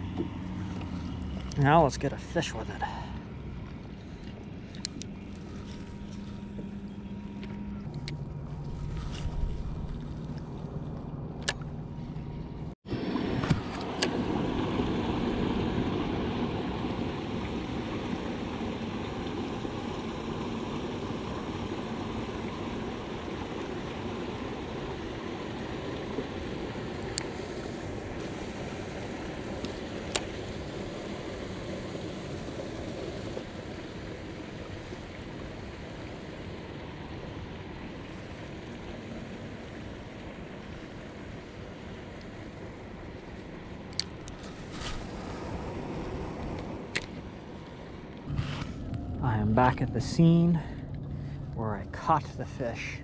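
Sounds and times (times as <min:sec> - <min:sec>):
river water lapping around boat: 0:00.0 - 0:53.0.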